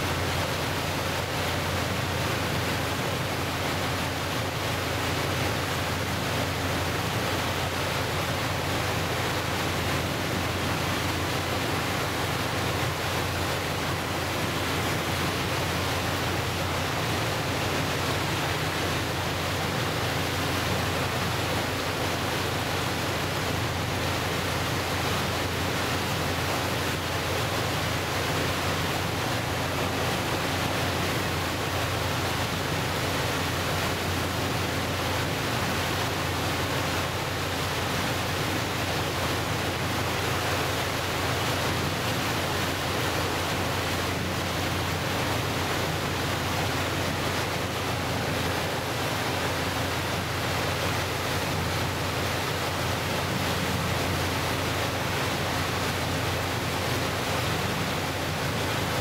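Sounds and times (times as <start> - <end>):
water churning along hull: 0.0 - 59.0.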